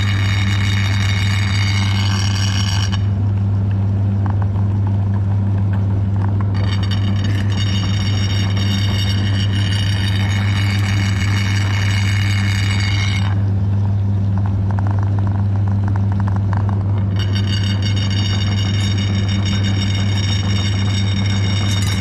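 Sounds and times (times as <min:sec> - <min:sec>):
high motor whine: 0:00.0 - 0:22.0.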